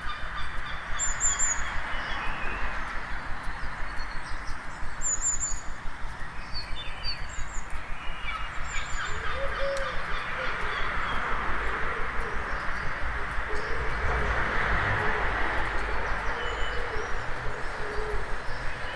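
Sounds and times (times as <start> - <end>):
hum of town noise: 0.0 - 18.9
small birds chirping and trilling: 0.0 - 18.9.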